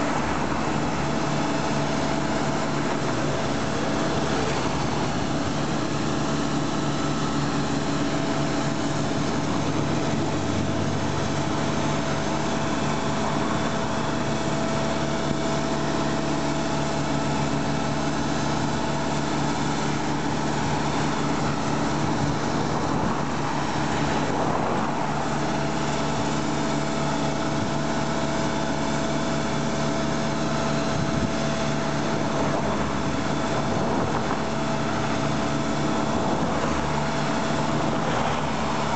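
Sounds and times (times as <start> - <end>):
constant whine: 0.0 - 38.9
machinery engine humming: 0.0 - 38.9.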